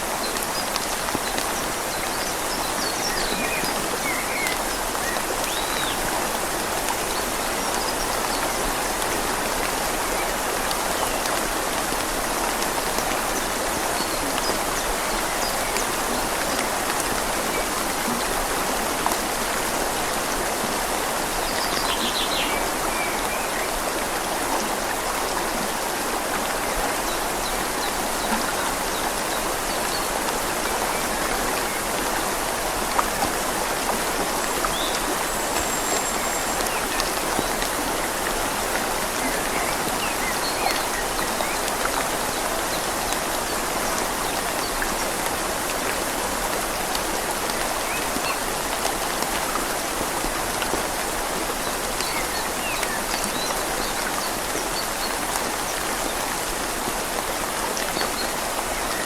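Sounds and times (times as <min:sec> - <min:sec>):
rain falling on leaves: 0:00.0 - 0:59.0
river flowing: 0:00.0 - 0:59.0.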